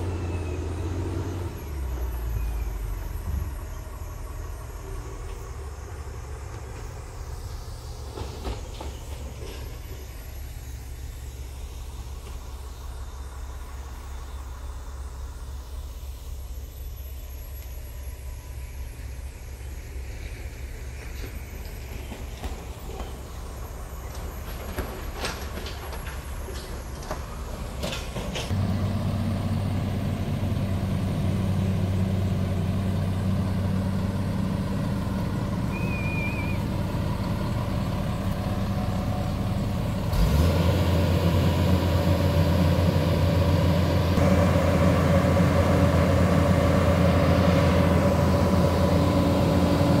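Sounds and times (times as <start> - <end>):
excavator diesel engine humming: 0.0 - 50.0.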